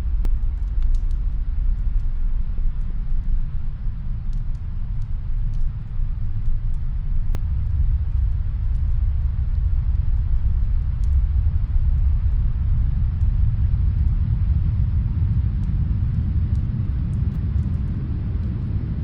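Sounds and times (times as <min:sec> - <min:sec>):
wind low rumble: 0:00.0 - 0:19.0
wood fire crackling: 0:00.0 - 0:19.0.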